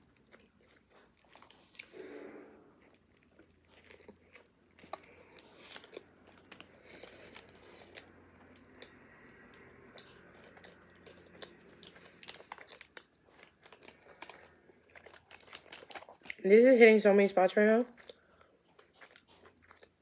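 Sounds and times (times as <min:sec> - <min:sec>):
chewing crusty bread: 0:00.0 - 0:02.1, 0:02.7 - 0:16.8, 0:17.8 - 0:20.0.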